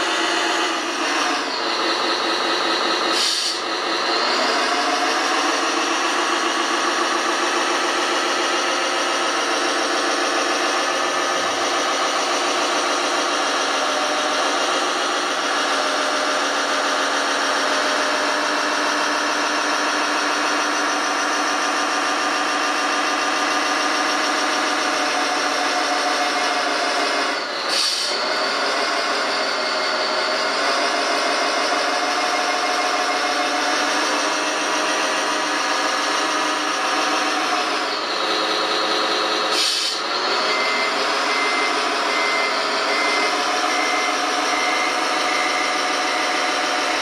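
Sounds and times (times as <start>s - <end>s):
simulated diesel engine from speaker: 0.0s - 47.0s.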